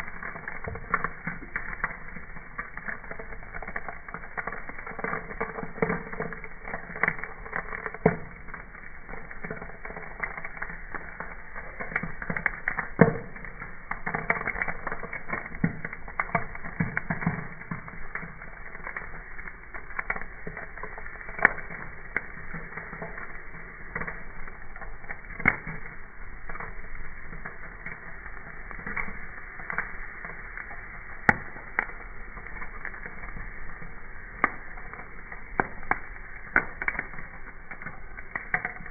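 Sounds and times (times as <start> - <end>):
campfire crackling: 0.0 - 38.9
sharp pops of fire: 0.0 - 38.9.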